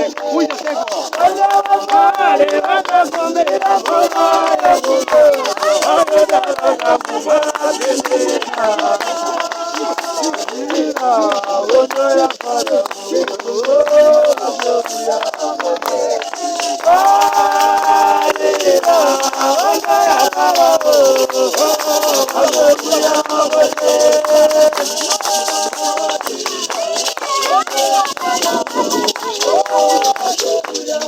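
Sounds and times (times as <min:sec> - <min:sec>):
congregation singing: 0:00.0 - 0:31.0
hand rattles shaken: 0:00.0 - 0:31.0.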